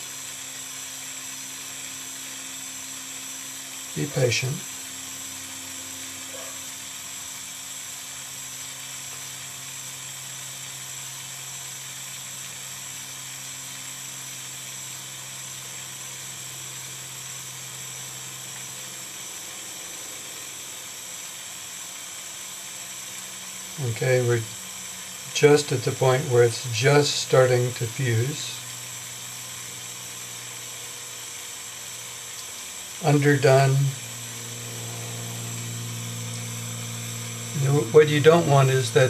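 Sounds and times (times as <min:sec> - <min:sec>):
mini torch hissing: 0:00.0 - 0:39.0.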